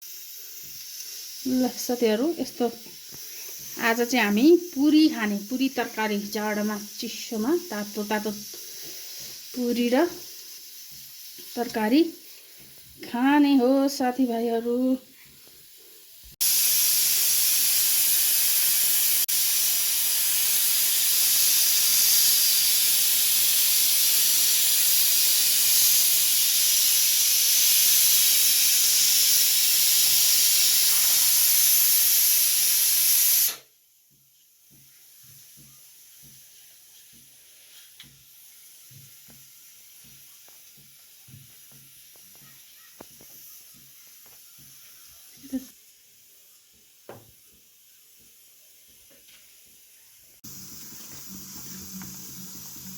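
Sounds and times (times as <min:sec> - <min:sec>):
loud steady hiss: 0:00.0 - 0:52.9.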